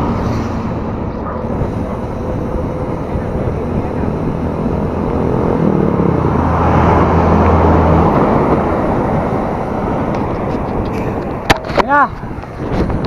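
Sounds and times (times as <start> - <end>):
vehicle passing by: 0.0 - 13.0
wind and road noise: 0.0 - 13.0.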